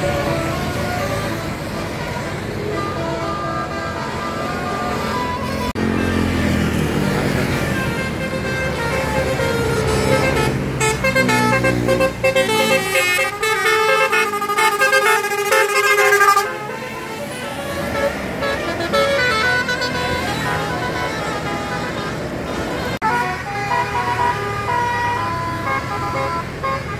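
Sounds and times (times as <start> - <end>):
multi-tone musical air horn: 0.0 - 6.2, 7.3 - 26.9
bus engine running: 0.0 - 26.9.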